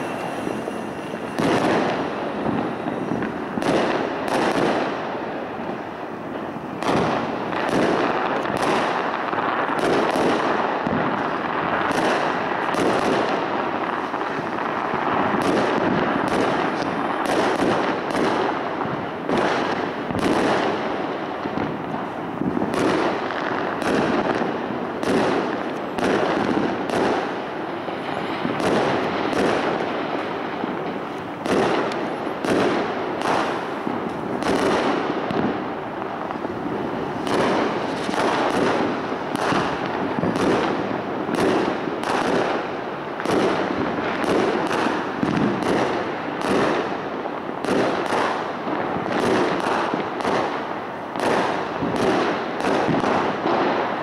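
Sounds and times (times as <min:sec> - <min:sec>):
fireworks popping and banging: 0:00.0 - 0:54.0
sharp loud firework bangs: 0:00.0 - 0:54.0.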